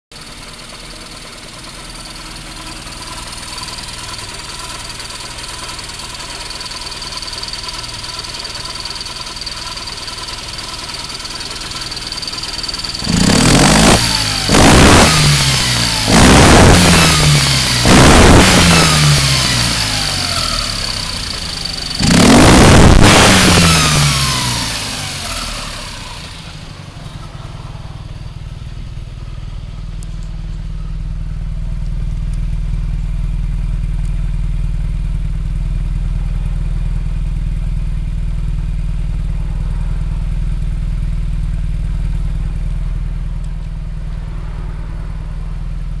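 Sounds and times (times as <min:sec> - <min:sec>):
engine revving and idling: 0:00.1 - 0:46.0.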